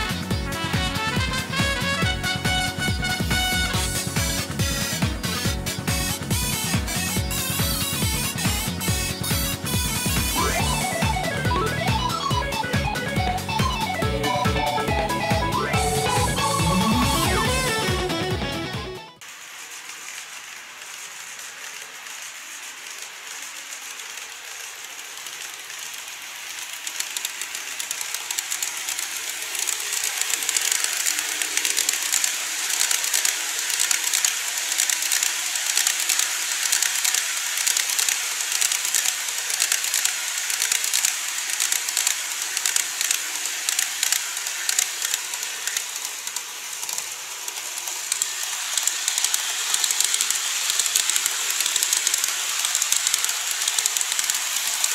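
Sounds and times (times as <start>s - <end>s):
model train wheels clicking on rails: 0.0s - 18.3s, 19.2s - 54.9s.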